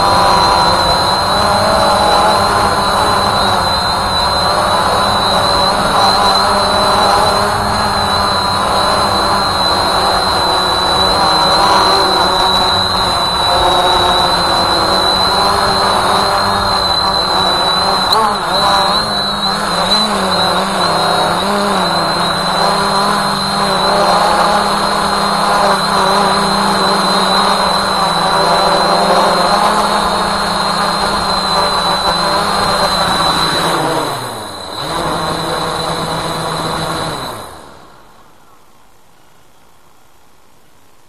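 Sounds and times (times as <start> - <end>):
drone motors humming: 0.0 - 38.1.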